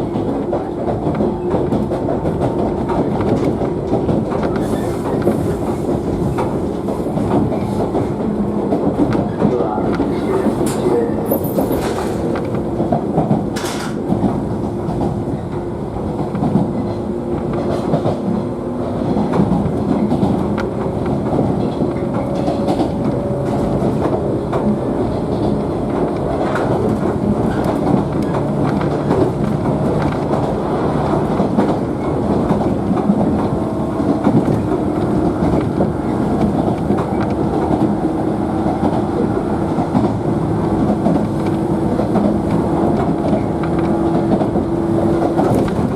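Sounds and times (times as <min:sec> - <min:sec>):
clickety-clack over rail joints: 0:00.0 - 0:45.9
train wheels rumbling on rails: 0:00.0 - 0:45.9.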